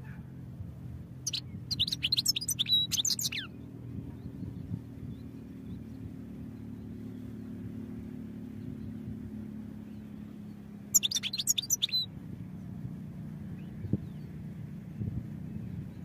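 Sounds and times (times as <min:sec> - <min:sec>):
steady low hum: 0:00.0 - 0:16.0
finch twittering song: 0:01.0 - 0:16.0.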